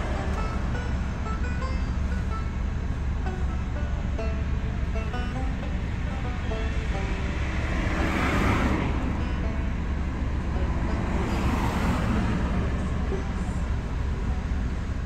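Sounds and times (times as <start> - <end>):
cars passing by: 0.0 - 15.0
plucked banjo notes: 0.0 - 15.0.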